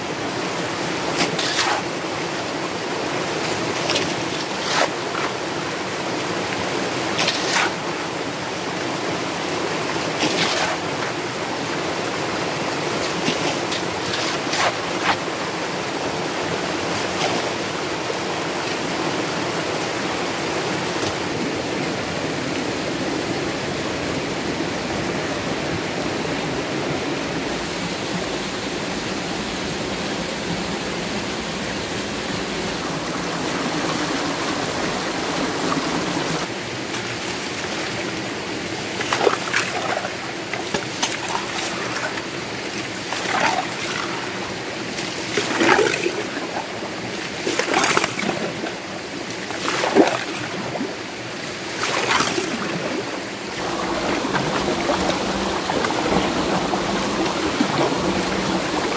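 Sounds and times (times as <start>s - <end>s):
water splashes: 0.0s - 22.8s, 27.3s - 58.9s
stream water running: 0.0s - 58.9s.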